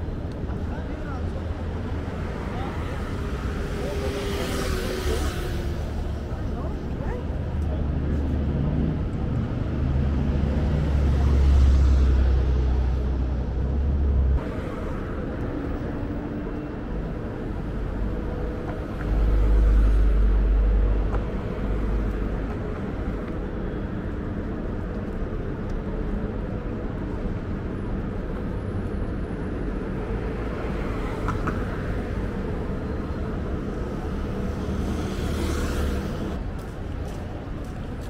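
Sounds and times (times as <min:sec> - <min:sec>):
traffic: 0:00.0 - 0:38.0.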